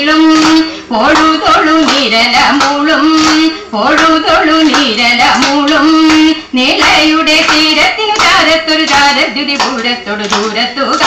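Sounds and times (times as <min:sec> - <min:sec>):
rhythmic hand claps: 0:00.0 - 0:11.0
women singing: 0:00.0 - 0:11.0.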